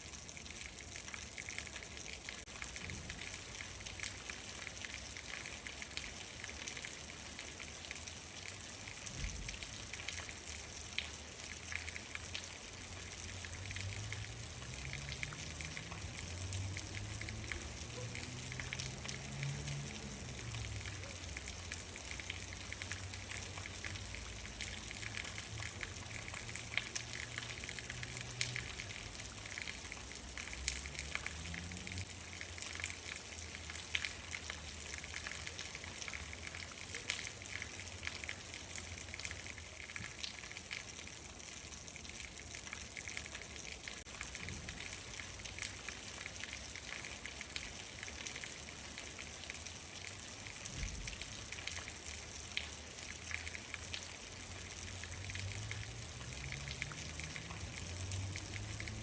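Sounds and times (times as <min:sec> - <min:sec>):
raindrops ticking close by: 0:00.0 - 0:59.0
steady rain falling: 0:00.0 - 0:59.0.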